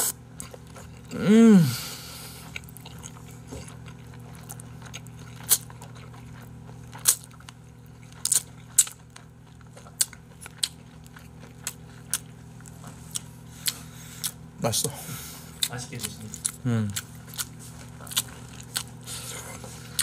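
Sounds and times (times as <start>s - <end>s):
chewing with wet smacks: 0.0s - 1.2s, 2.4s - 20.0s.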